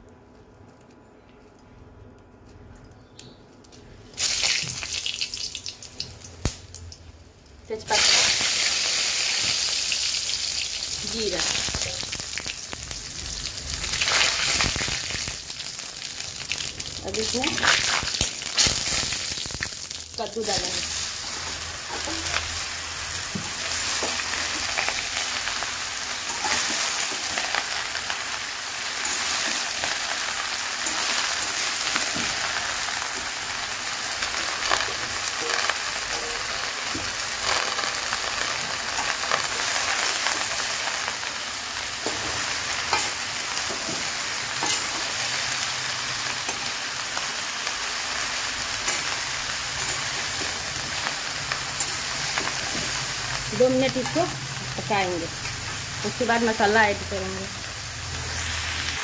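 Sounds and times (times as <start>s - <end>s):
vegetables sizzling in hot oil: 4.2s - 7.1s, 7.7s - 59.0s.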